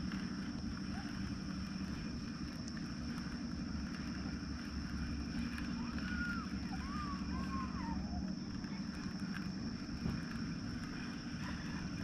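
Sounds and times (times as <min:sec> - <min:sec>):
high-pitched hum: 0:00.0 - 0:12.0
low outdoor rumble: 0:00.0 - 0:12.0.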